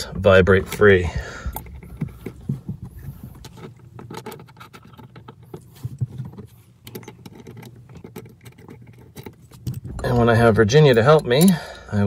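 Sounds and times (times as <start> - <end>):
small bolt hardware clicking and rattling: 1.5 - 12.0.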